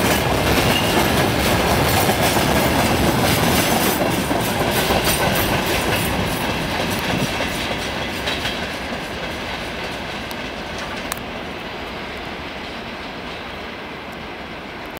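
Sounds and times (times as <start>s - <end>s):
train wheels clacking on rails: 0.0s - 14.9s.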